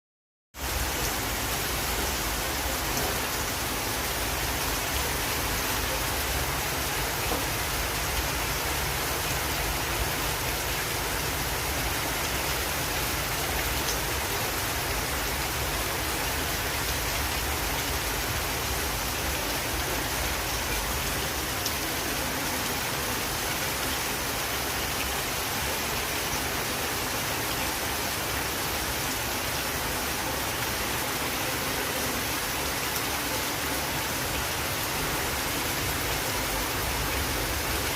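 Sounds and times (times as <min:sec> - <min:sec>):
rain falling: 0:00.6 - 0:37.9.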